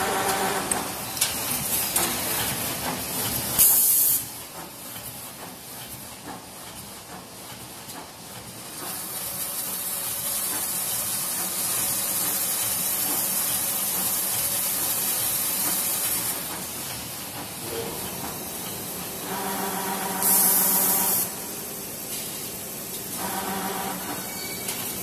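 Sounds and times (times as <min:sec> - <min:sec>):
machine running with hiss: 0:00.0 - 0:25.0.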